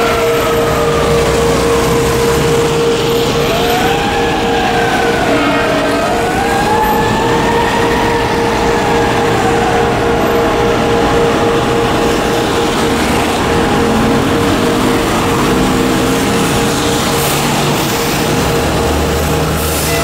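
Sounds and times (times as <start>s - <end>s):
diesel engine running: 0.0s - 20.0s
siren wail: 0.0s - 20.0s
steady hum: 0.0s - 20.0s.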